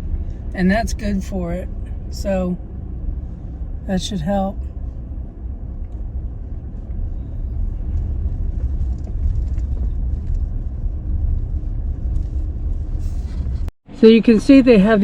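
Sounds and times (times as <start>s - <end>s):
truck rumbling on dirt track: 0.0s - 14.9s.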